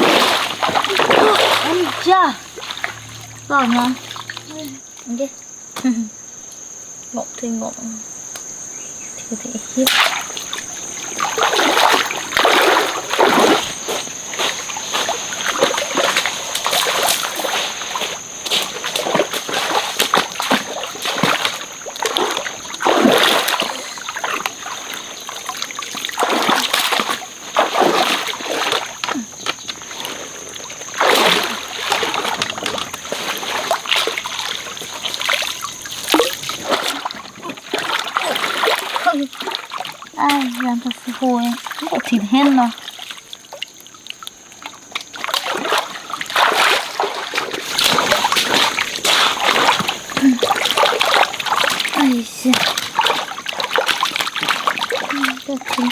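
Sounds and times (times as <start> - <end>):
stream water splashing: 0.0 - 5.9, 9.3 - 55.9.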